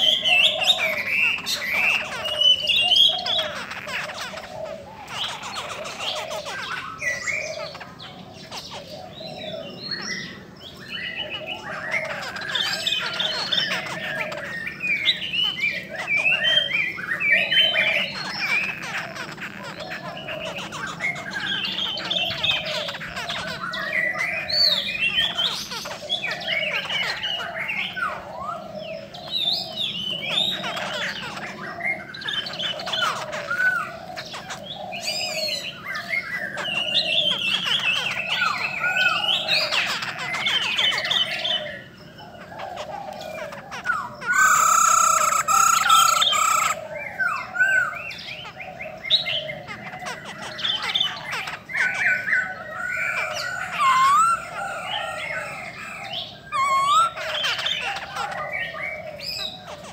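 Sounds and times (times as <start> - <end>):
birds singing and chattering: 0.0 - 59.9.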